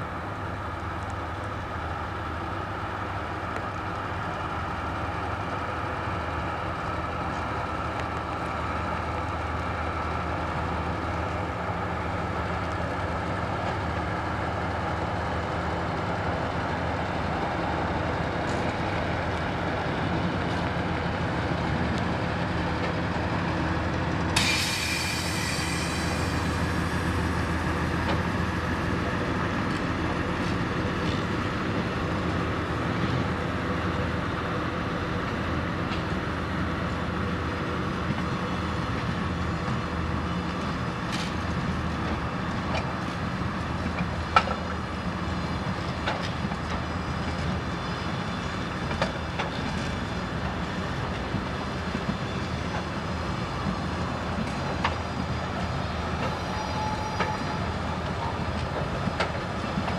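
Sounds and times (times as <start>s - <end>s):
diesel train rumbling past: 0.0s - 59.9s.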